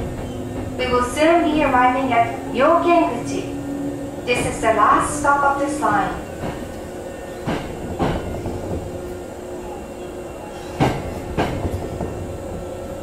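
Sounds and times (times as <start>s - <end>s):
train interior rumble: 0.0s - 13.0s
wheels clacking over rail joints: 0.0s - 13.0s.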